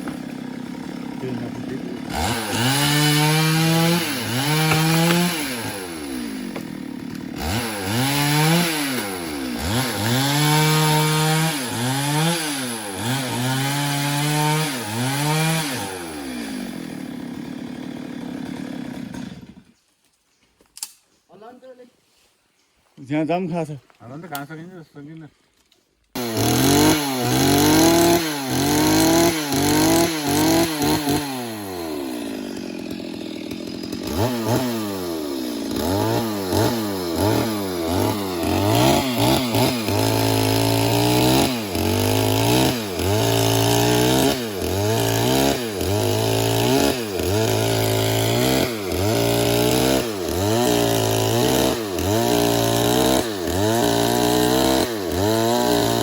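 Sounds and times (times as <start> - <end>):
chainsaw cutting wood: 0.0 - 19.8, 26.1 - 56.0.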